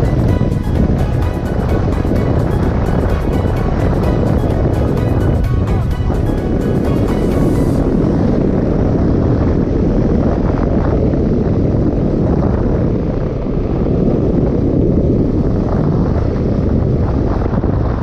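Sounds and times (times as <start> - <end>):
motorcycle engine running: 0.0 - 17.9
wind buffeting microphone: 0.0 - 18.0.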